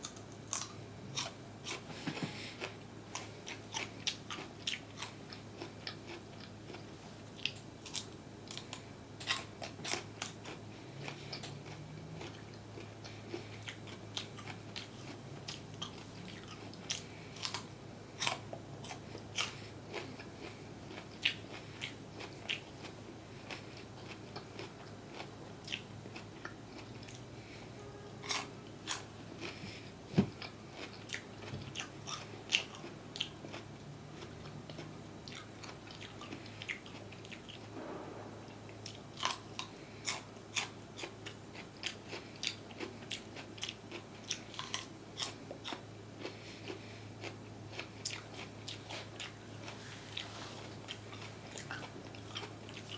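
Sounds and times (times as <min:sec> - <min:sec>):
person chewing crunchy food: 0:00.0 - 0:37.8, 0:38.8 - 0:52.9.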